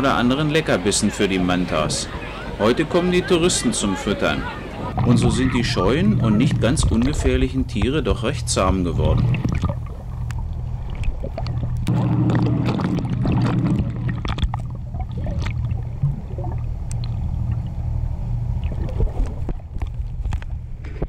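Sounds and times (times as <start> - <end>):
underwater boat engine drone: 0.0 - 21.0.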